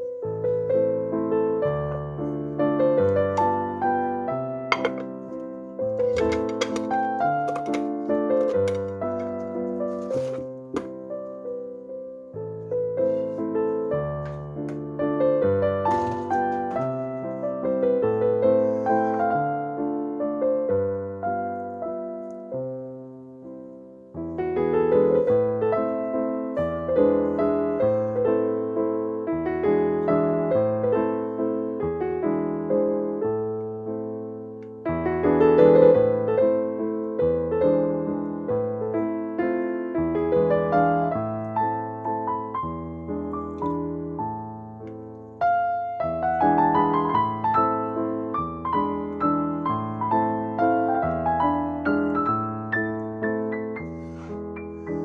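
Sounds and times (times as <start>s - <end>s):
gentle piano melody: 0.0s - 55.0s.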